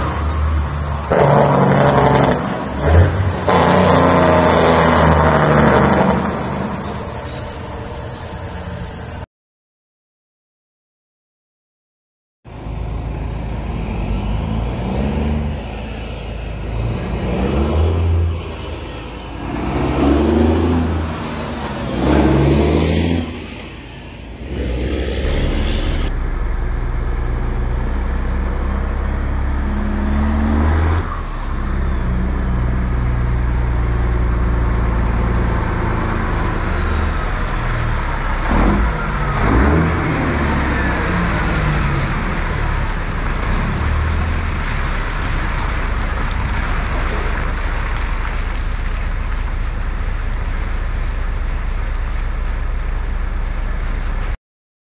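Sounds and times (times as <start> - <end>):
diesel truck engine revving: 0.0 - 9.2, 12.5 - 54.4.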